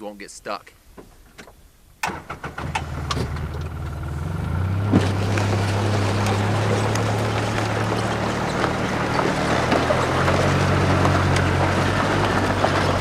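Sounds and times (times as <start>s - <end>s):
vehicle engine humming: 2.1s - 13.0s.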